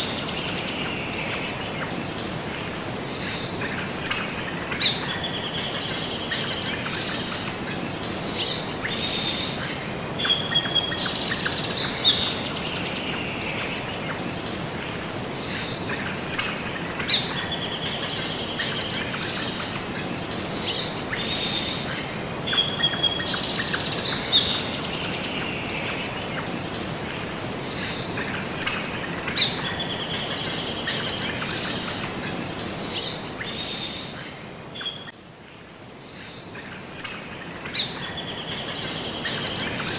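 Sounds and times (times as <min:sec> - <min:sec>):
birds chirping and trilling: 0:00.0 - 0:39.9
steady background hiss: 0:00.0 - 0:39.9.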